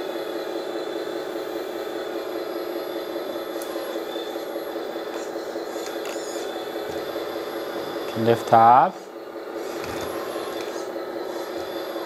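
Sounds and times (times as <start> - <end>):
hydraulic pump whine: 0.0 - 12.0
simulated diesel engine: 0.0 - 12.0.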